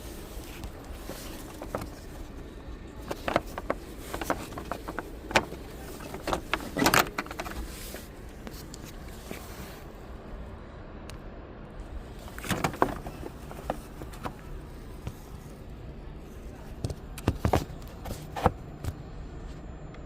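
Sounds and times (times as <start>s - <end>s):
car engine humming: 0.0s - 10.6s, 11.7s - 19.3s.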